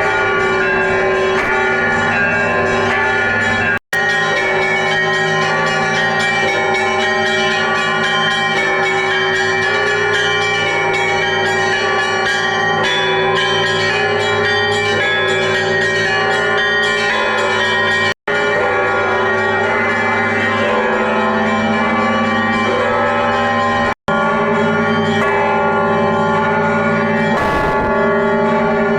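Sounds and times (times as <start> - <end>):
church bells pealing: 0.0 - 28.9.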